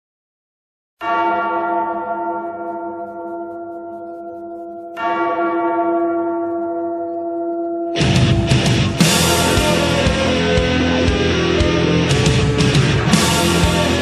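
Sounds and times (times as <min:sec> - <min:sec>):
large bell tolling: 0:01.0 - 0:14.0.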